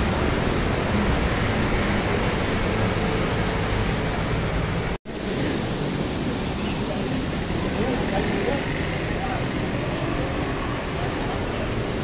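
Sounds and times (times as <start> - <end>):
heavy rain: 0.0 - 12.0
passing traffic: 0.0 - 12.0.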